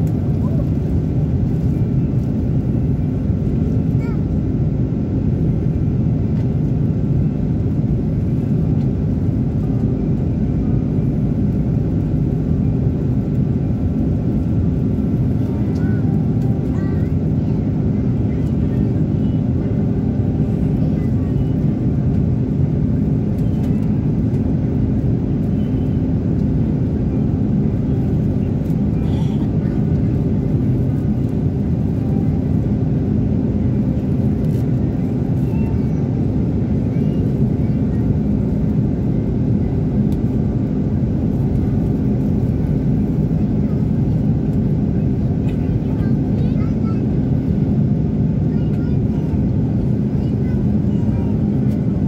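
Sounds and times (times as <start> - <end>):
jet engine drone: 0.0 - 52.0.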